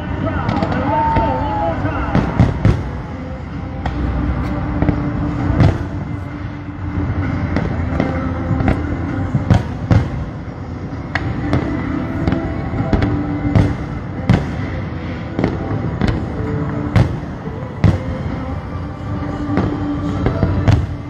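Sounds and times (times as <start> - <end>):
steady low rumble: 0.0 - 21.0
fireworks bangs: 0.1 - 18.5, 19.2 - 21.0.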